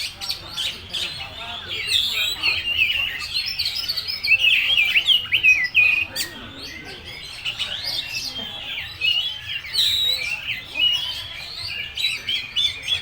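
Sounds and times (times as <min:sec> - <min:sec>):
magpie-robin singing: 0:00.0 - 0:13.0.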